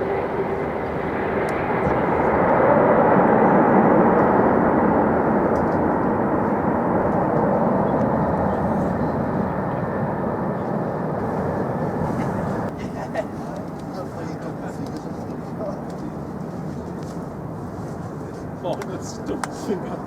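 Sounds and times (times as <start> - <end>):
jet engines passing: 0.0 - 20.0.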